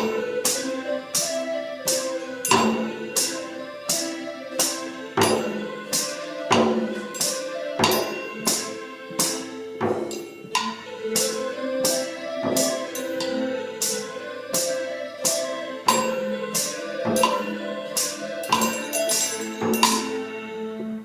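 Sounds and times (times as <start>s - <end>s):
jingling percussion strikes: 0.0s - 20.7s
held pitched instrumental notes: 0.0s - 21.0s.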